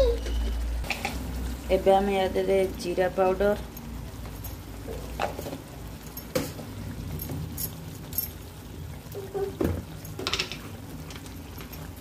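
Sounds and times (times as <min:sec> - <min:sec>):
paste frying in hot oil: 0:00.0 - 0:12.0.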